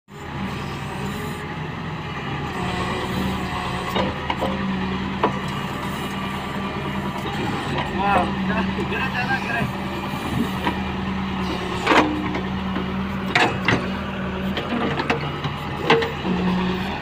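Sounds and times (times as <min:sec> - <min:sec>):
diesel engine running: 0:00.1 - 0:17.0.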